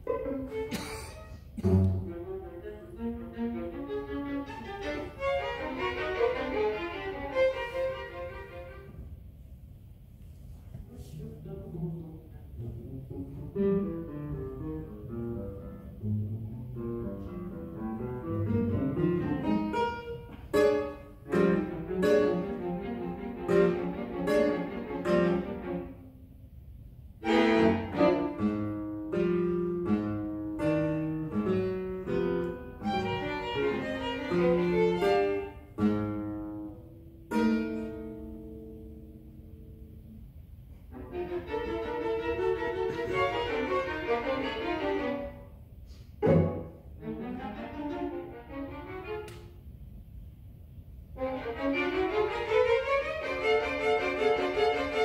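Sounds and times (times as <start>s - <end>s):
string quartet playing: 0.0s - 9.8s, 10.8s - 50.0s, 51.0s - 55.0s
classical guitar: 0.0s - 55.0s.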